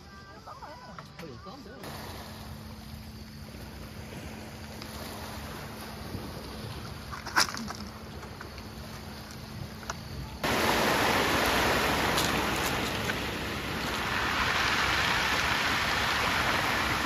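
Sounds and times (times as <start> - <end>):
waves washing onto pebbles: 1.8 - 9.3, 10.0 - 17.0.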